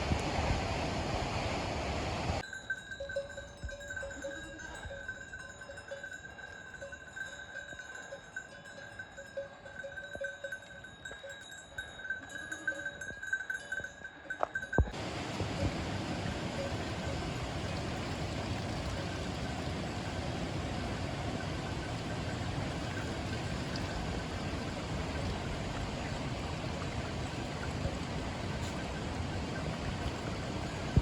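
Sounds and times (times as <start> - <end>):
livestock bells jingling: 2.4 - 31.0.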